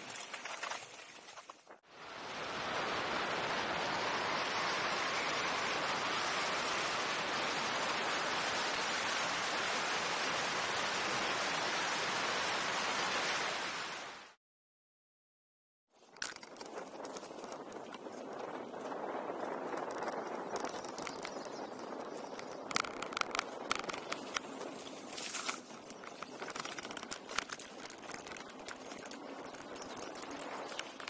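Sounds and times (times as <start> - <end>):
wind rushing over microphone: 2.0 - 14.1, 16.4 - 31.0.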